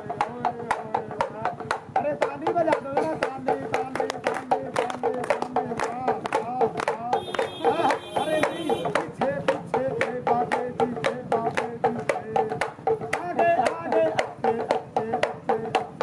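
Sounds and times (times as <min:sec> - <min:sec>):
pellet drum fast beat: 0:00.0 - 0:16.0.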